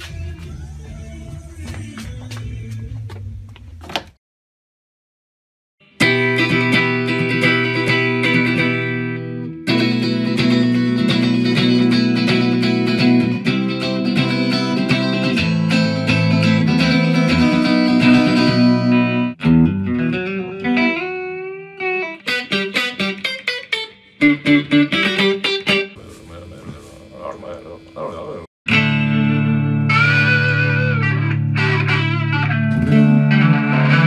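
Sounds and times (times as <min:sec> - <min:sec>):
electric guitar through amplifier: 0:05.8 - 0:34.0.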